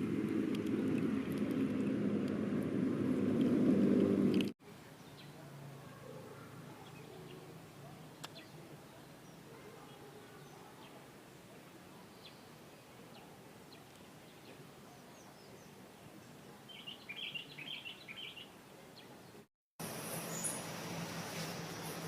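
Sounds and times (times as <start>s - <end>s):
wild birds chirping: 3.8s - 22.0s.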